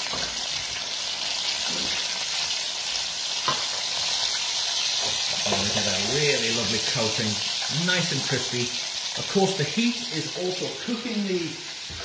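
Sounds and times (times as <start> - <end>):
food sizzling in deep fryer oil: 0.0 - 12.0.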